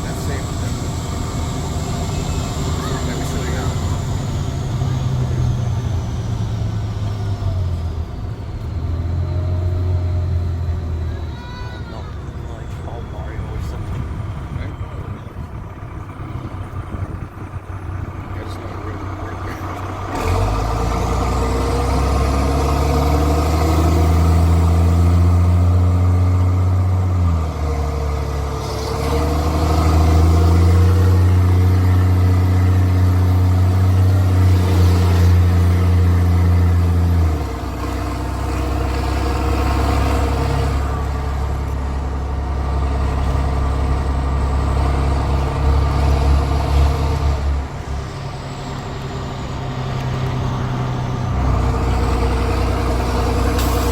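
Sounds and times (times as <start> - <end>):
diesel bus engine with loud exhaust: 0.0 - 53.9.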